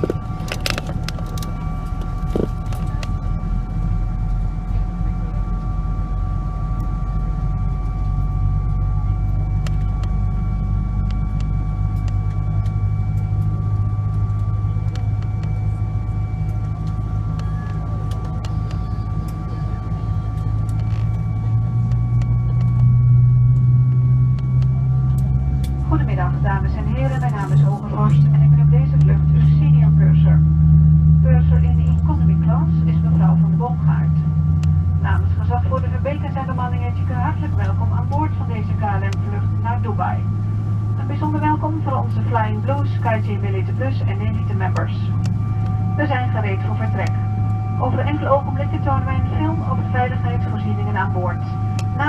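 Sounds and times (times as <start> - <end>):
airplane cabin rumble: 0.0 - 52.0.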